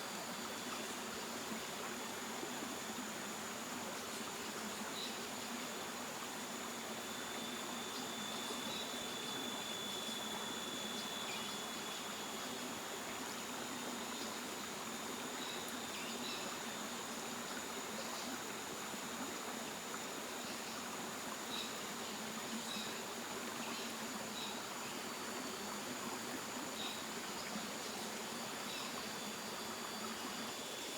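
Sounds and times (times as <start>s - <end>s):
high insect drone: 0.1s - 30.9s.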